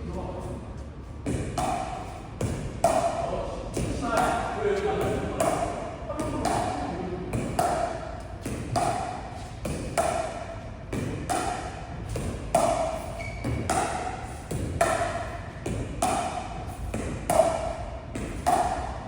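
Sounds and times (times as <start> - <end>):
paddles striking ball: 1.3 - 19.0.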